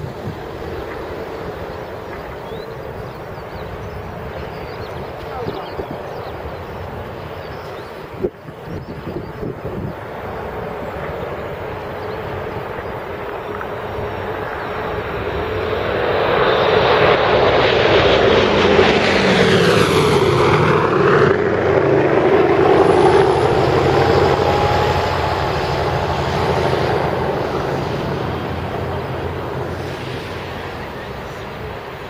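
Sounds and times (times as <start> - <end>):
propeller airliner engines droning: 0.0 - 32.0.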